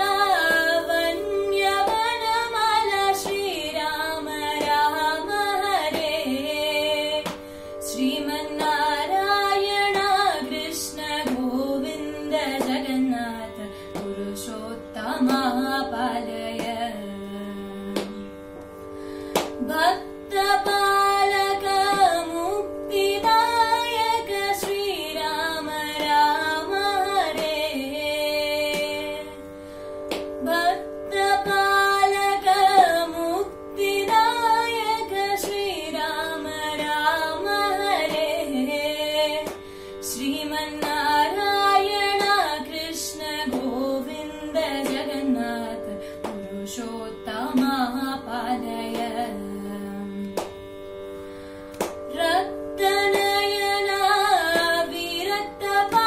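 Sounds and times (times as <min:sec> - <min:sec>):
woman singing devotional song: 0:00.0 - 0:18.6, 0:19.2 - 0:56.0.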